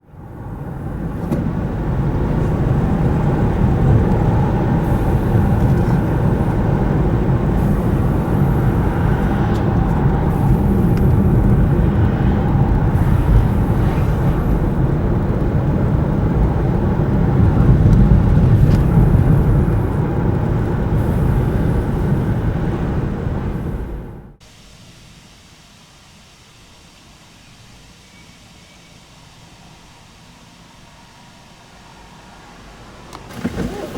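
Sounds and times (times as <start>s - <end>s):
vehicle rumbling: 0.0s - 24.4s, 31.0s - 33.9s.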